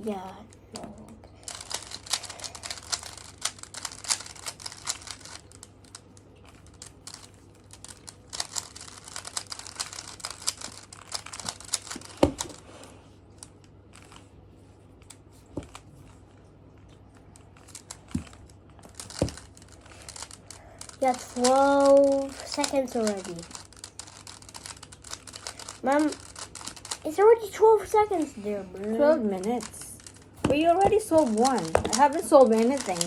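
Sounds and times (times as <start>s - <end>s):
puzzle cube clicking and rattling: 0.8s - 14.3s, 17.4s - 33.0s.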